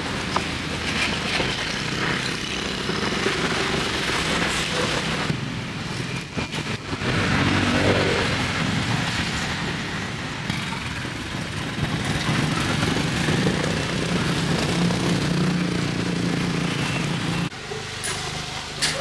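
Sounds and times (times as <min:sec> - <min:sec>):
motorbike engine humming: 0:00.0 - 0:19.0
street traffic noise: 0:00.0 - 0:19.0.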